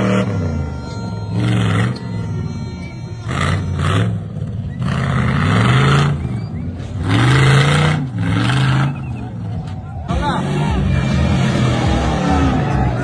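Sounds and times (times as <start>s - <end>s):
buggy engine revving hard: 0.0s - 13.0s.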